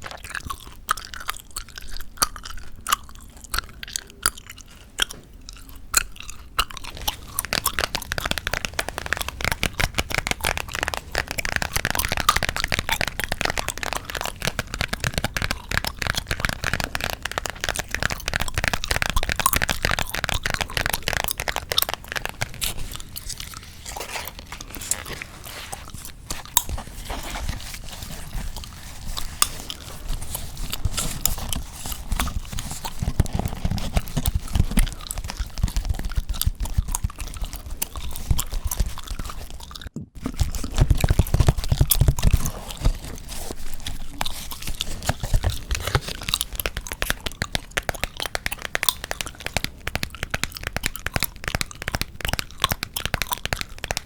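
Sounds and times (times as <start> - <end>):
gum chewing: 0.0 - 54.0.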